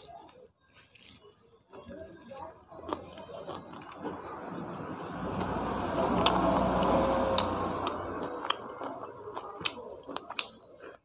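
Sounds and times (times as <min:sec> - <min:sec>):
man chewing food: 0:00.0 - 0:11.0
fingers mixing wet food: 0:01.8 - 0:11.0.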